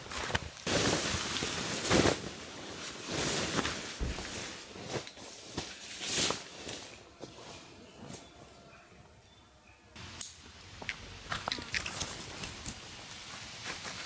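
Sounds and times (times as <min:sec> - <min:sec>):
rustling and crunching: 0:00.0 - 0:08.3, 0:10.7 - 0:14.0.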